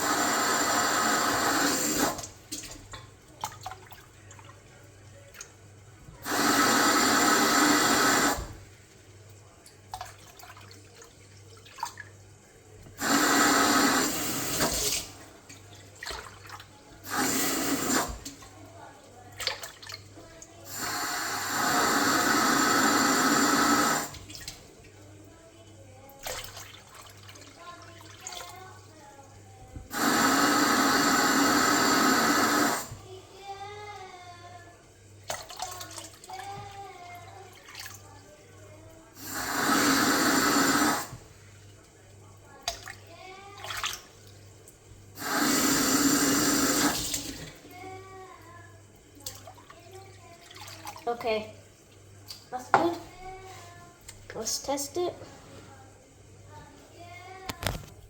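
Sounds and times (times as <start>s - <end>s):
water running from a tap: 0.0s - 55.3s.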